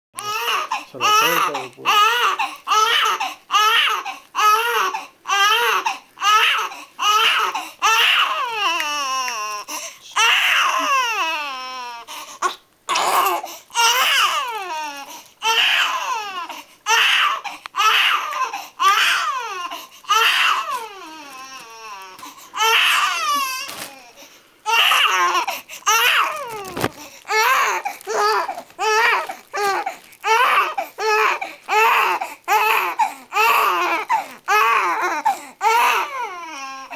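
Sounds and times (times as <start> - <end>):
infant crying: 0.2 - 36.9.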